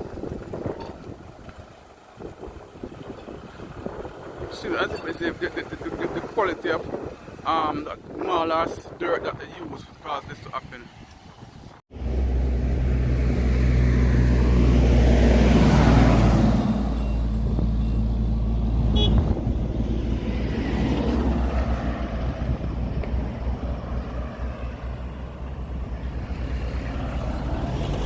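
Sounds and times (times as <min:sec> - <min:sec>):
vehicle engine and tyre noise: 0:00.0 - 0:28.0.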